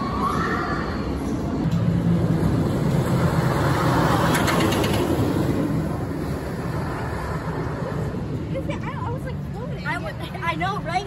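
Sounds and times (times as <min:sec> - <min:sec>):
roller coaster roar: 0:00.0 - 0:10.2
roller coaster rattle: 0:00.0 - 0:11.0.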